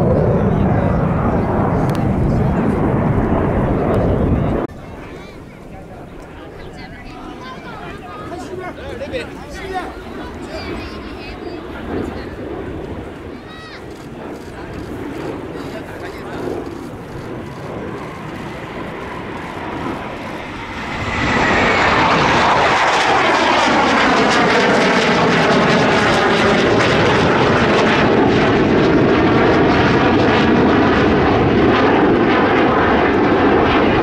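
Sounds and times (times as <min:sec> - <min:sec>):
jet engine whine sliding down: 0:00.0 - 0:34.0
jet fighters flying past: 0:00.0 - 0:34.0.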